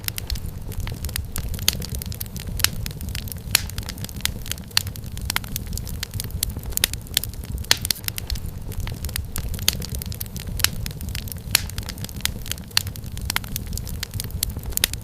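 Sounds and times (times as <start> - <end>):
firewood popping and snapping: 0.0 - 15.0
low rumble of flames: 0.0 - 15.0.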